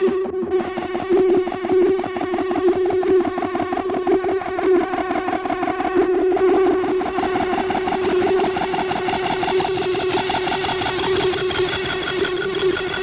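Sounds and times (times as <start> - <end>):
ambient drone music: 0.0 - 13.0.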